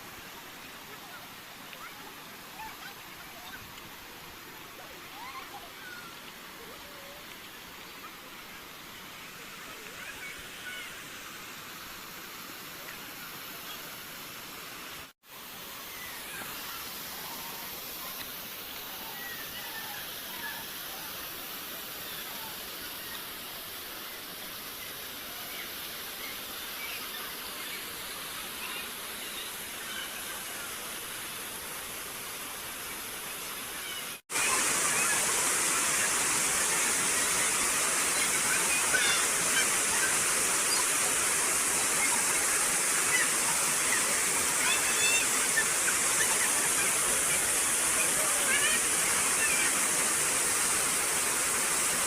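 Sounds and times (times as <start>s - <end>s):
river water and waterfalls rushing: 0.0s - 52.0s.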